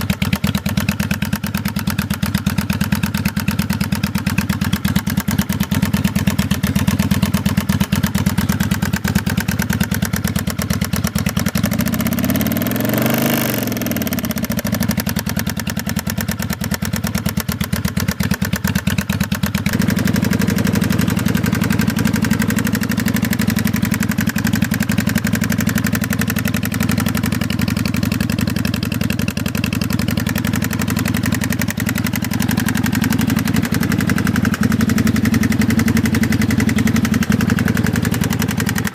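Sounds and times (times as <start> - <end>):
engine knocking: 0.0 - 38.9
motorcycle engine idling: 0.0 - 38.9.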